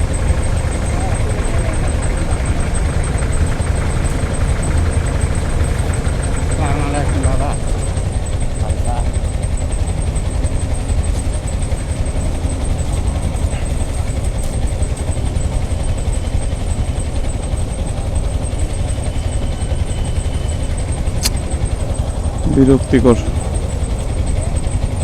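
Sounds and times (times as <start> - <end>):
idling traffic engine rumble: 0.0 - 25.0.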